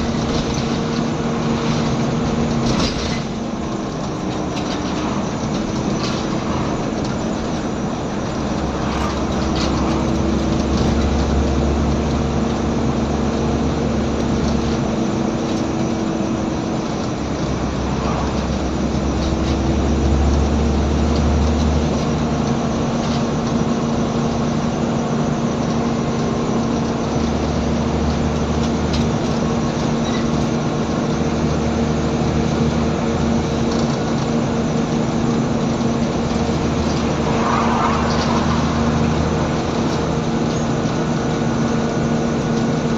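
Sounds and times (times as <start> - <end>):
bus diesel engine droning: 0.0 - 42.9.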